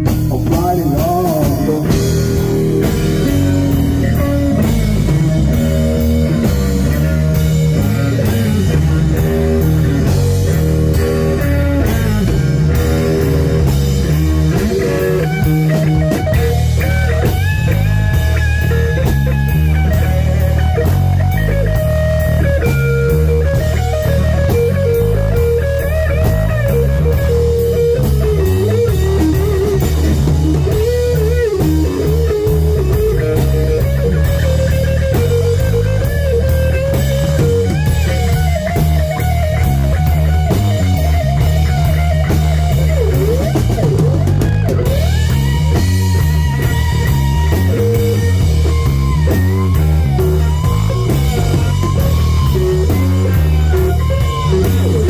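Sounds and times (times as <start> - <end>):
bass and drum groove: 0.0 - 55.0
electric guitar lead: 0.0 - 55.0.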